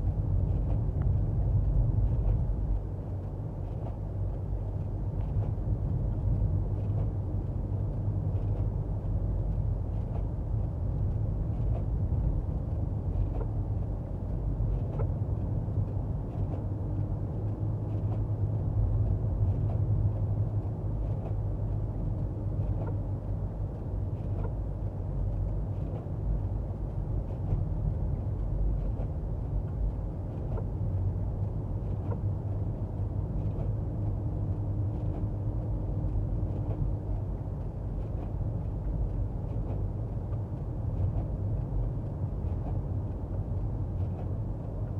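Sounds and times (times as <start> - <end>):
car interior rumble: 0.0 - 44.9
faint light ticks: 0.3 - 44.9.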